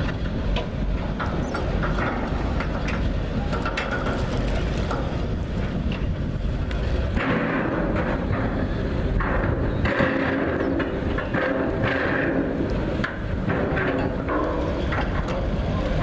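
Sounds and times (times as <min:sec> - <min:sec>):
vehicle engines running: 0:00.0 - 0:16.0
wind rumbling on microphone: 0:00.0 - 0:16.0.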